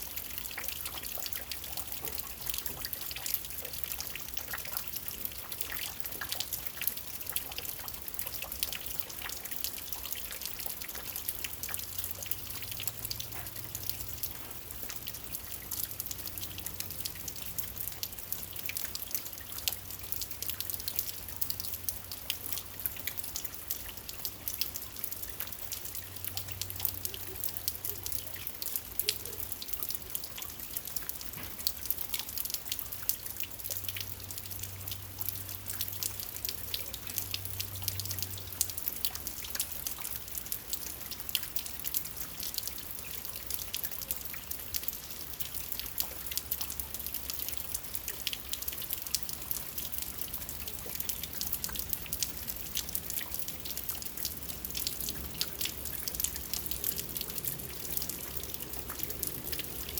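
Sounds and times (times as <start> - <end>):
drops dripping close by: 0.0 - 59.9
steady rain falling: 0.0 - 59.9.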